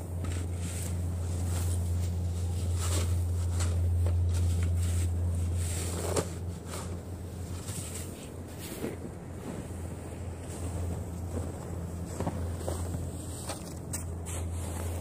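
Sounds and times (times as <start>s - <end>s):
steady low hum: 0.0s - 15.0s
snow shovel scraping snow: 0.2s - 15.0s.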